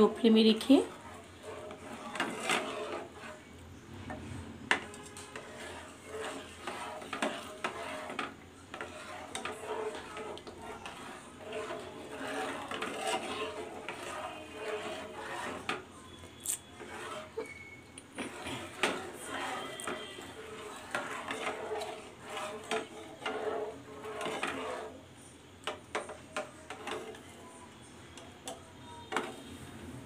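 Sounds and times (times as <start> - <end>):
spatula scraping frying pan: 0.0 - 30.0.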